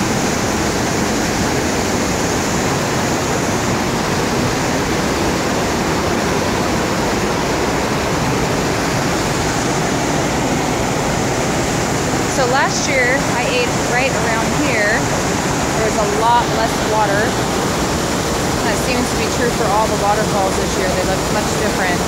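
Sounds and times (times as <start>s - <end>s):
rushing whitewater: 0.0s - 22.0s.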